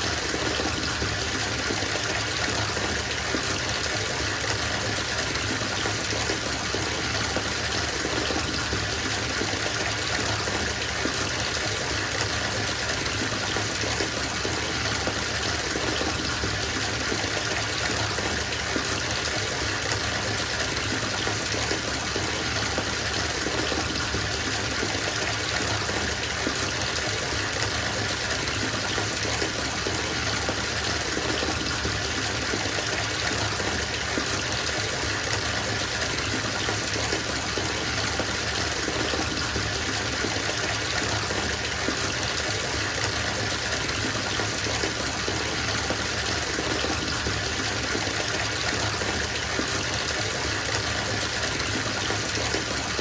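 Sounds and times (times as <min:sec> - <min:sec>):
water pouring from tap into tub: 0:00.0 - 0:53.0.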